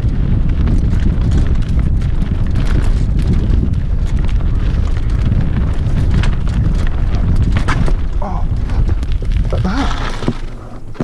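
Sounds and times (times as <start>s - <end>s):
bike rattling over rocks: 0.0s - 11.0s
wind buffeting microphone: 0.0s - 11.0s.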